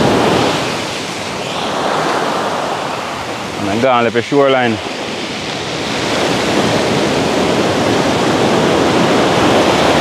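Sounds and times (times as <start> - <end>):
sea surf breaking on shore: 0.0 - 10.0.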